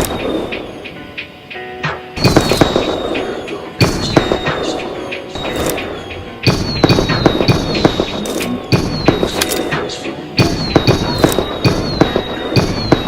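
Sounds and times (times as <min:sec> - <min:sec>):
firework bangs and cracks: 0:00.0 - 0:00.8, 0:02.2 - 0:13.0
music: 0:00.0 - 0:13.0.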